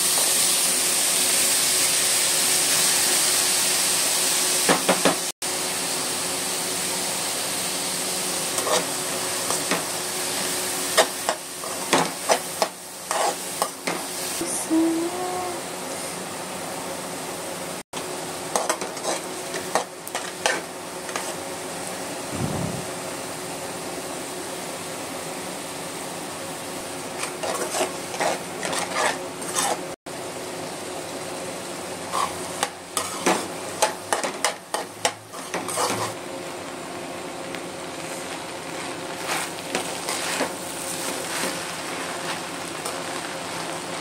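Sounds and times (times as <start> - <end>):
vegetables sizzling in a wok: 0.0 - 44.0.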